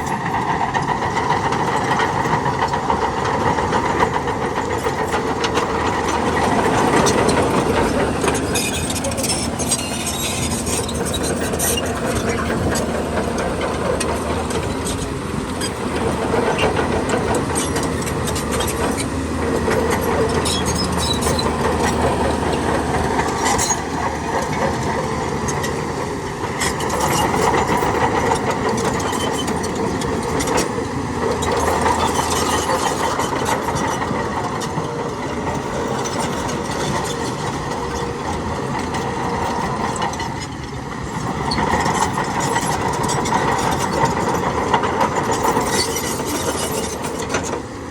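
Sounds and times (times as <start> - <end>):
diesel machinery running: 0.0 - 47.9.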